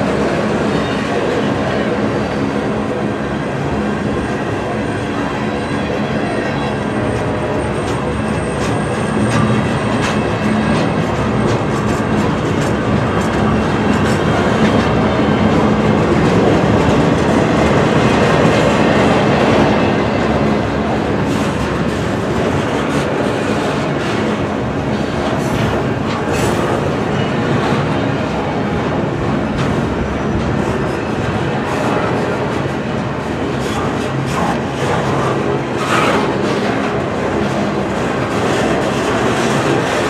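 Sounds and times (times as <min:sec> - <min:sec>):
freight train wheels clacking: 0:00.0 - 0:40.0.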